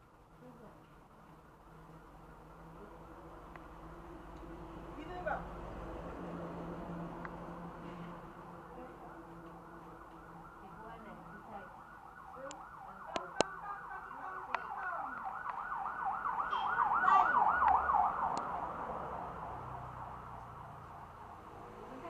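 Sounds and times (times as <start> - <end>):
emergency siren warbling: 3.9 - 22.0.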